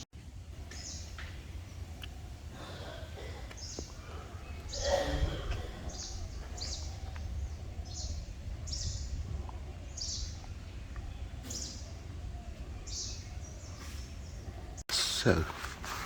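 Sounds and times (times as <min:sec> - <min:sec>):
birds calling: 0:00.0 - 0:15.8.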